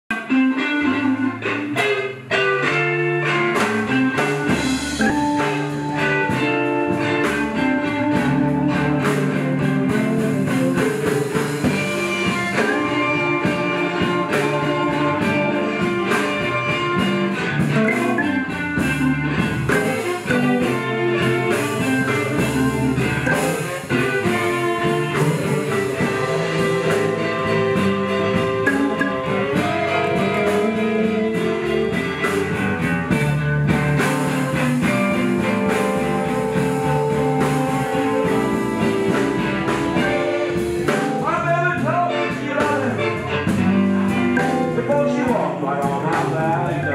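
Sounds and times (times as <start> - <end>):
electric guitar: 0.1 - 46.9
live blues band instrumental: 0.1 - 46.9.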